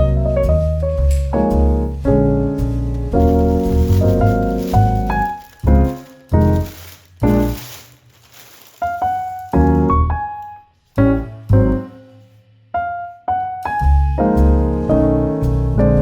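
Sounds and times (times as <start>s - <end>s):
piano music: 0.0s - 12.2s, 12.8s - 16.0s.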